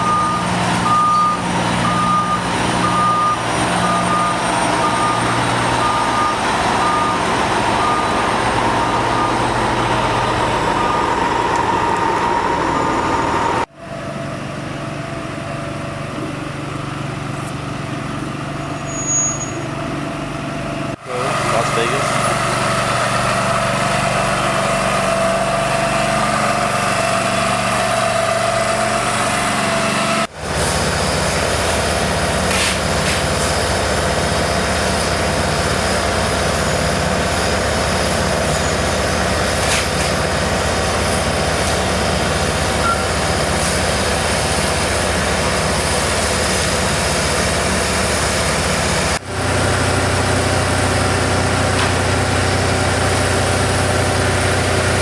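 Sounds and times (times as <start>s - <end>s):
road machinery engines running: 0.0s - 55.0s.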